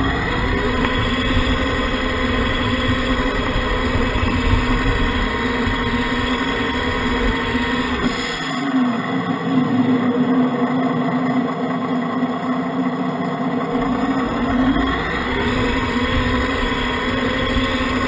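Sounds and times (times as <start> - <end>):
model truck motor hum: 0.0 - 18.0
wheels rumbling on gravel: 0.0 - 18.0.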